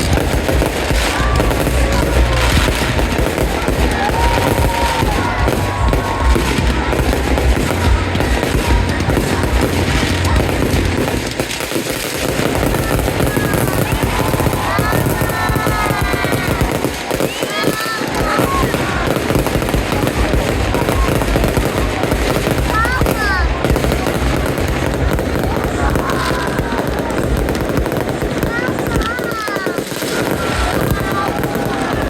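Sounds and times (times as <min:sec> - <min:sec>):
fireworks crackling and popping: 0:00.0 - 0:32.0.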